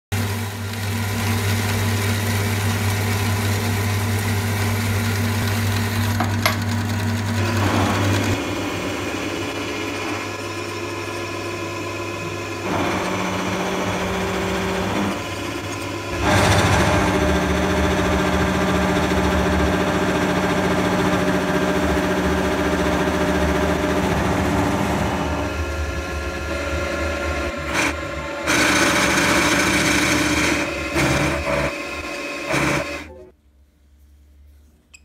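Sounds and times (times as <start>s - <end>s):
metal-cutting saw motor: 0.2s - 33.2s
milling machine cutting steel: 4.8s - 33.2s.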